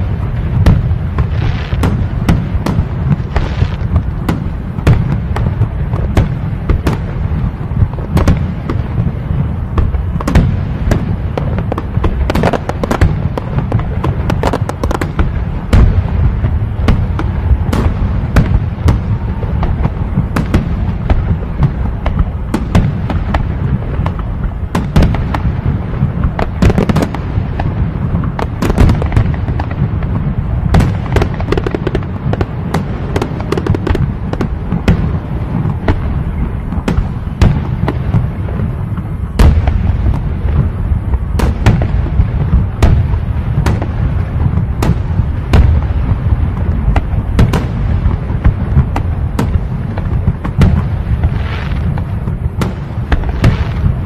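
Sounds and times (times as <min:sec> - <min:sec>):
fireworks booming: 0:00.0 - 0:54.0
fireworks cracking: 0:00.0 - 0:54.0.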